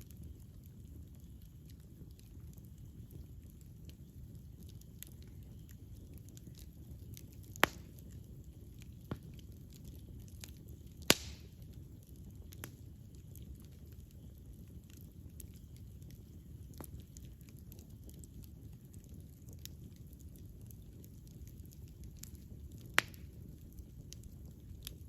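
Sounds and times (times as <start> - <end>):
burning wood popping: 0.0 - 25.0
fire crackling: 0.0 - 25.0
wood fire rumbling: 0.0 - 25.0.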